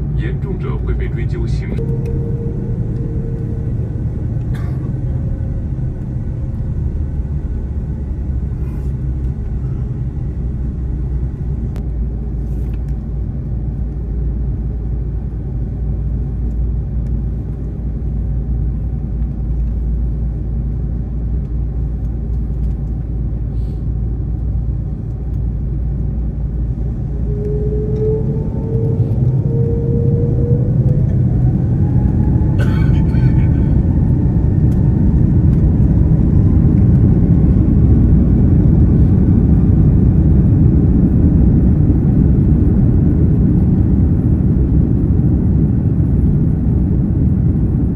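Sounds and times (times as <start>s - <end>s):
aircraft cabin rumble taxiing: 0.0s - 47.9s.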